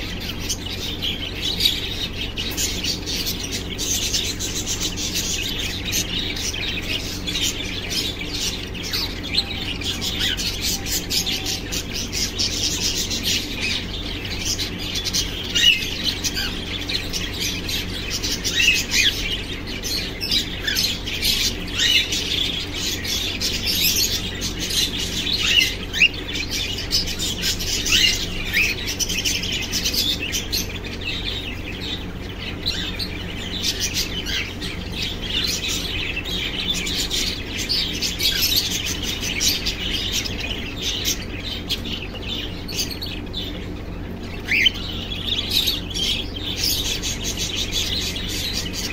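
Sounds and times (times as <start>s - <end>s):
cockatiels chirping and chattering: 0.0s - 48.9s
loud bird squawk: 0.0s - 48.9s.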